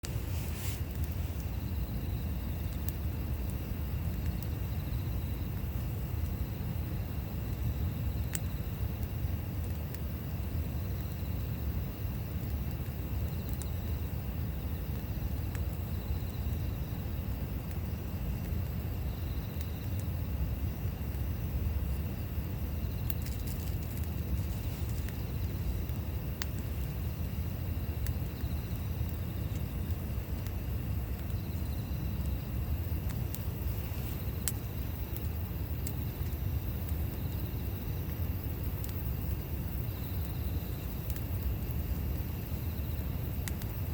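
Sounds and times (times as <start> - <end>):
campfire burning: 0.0 - 43.9
crackles and pops of burning wood: 0.0 - 43.9.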